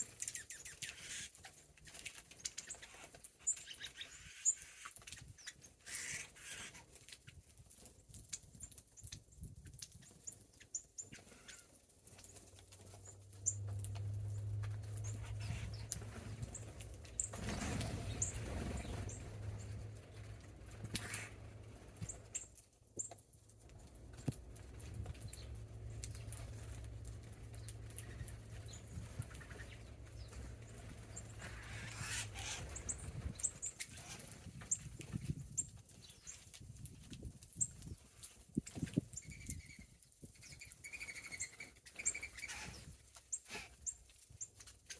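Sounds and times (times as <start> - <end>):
birds pecking ticks: 0.0 - 44.9
small birds chirping: 0.0 - 44.9.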